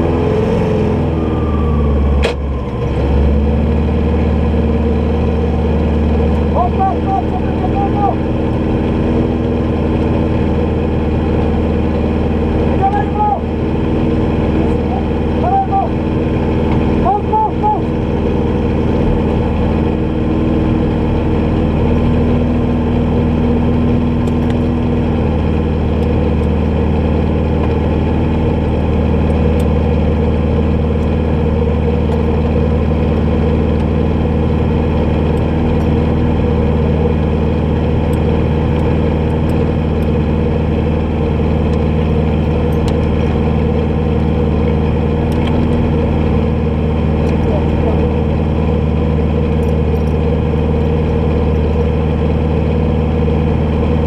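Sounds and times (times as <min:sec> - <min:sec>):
buggy engine idling: 0:01.1 - 0:54.0.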